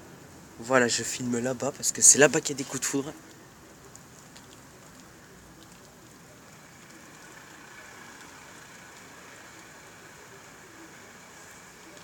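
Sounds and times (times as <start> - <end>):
light rain hissing: 0.0 - 12.0
raindrop ticks: 1.6 - 12.0.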